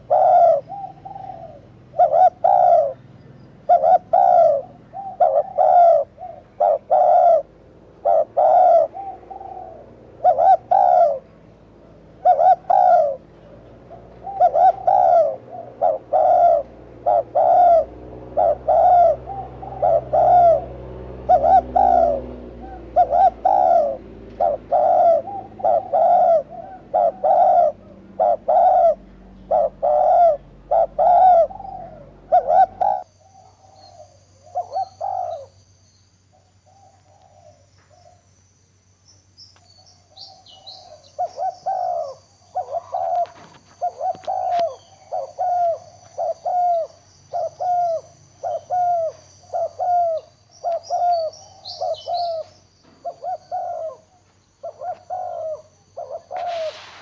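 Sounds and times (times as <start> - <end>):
dove cooing: 0.0 - 35.6, 36.3 - 38.3, 39.7 - 57.0.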